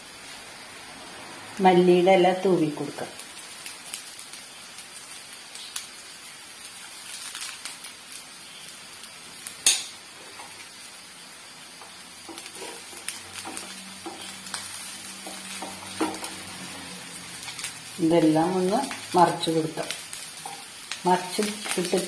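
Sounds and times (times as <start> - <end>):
oil sizzling in frying pan: 0.0 - 22.0.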